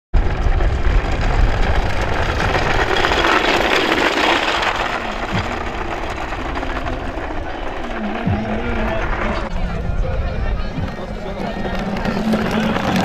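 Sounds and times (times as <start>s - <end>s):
wooden wheels rolling on gravel: 0.2s - 9.6s, 10.9s - 13.0s.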